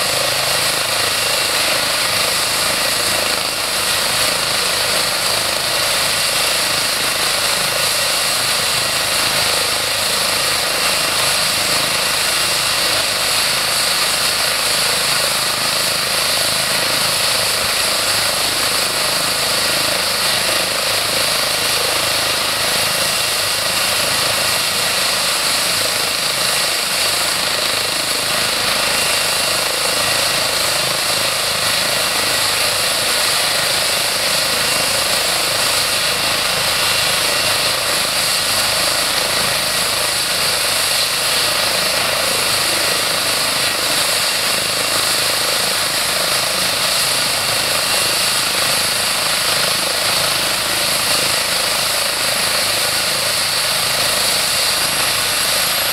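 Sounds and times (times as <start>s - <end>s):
helicopter rotor rush: 0.0s - 55.9s
helicopter turbine whine: 0.0s - 55.9s.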